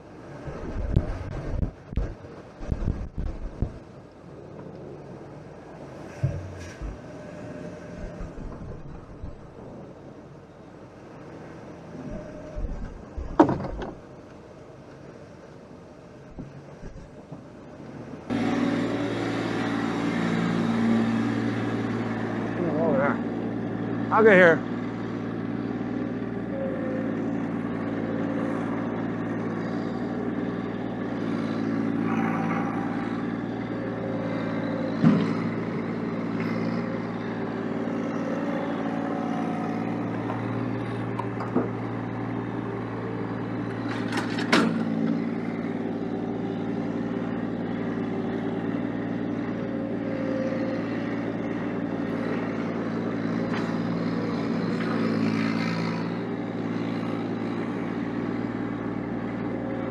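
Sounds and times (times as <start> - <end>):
snowplow engine running: 0.0 - 59.9.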